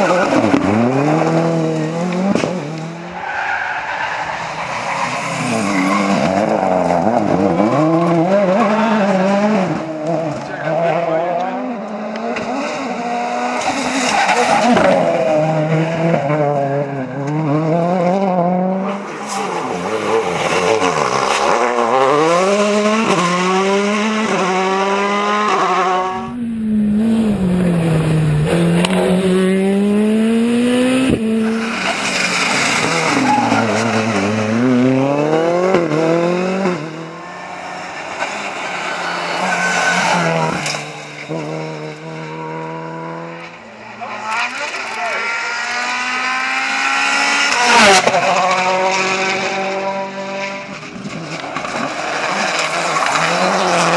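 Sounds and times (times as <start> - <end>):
rally cars at full throttle: 0.0 - 53.9.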